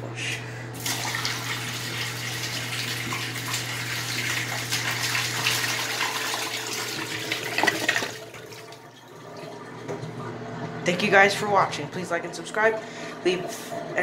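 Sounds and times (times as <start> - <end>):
toilet flushing water rushing: 0.8 - 11.4, 12.0 - 14.0.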